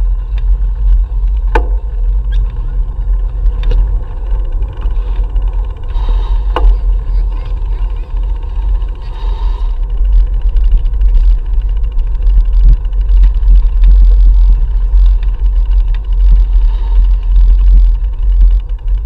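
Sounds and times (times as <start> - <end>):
tyres clicking over wooden boardwalk: 0.0 - 19.0
wind buffeting microphone: 0.0 - 19.0.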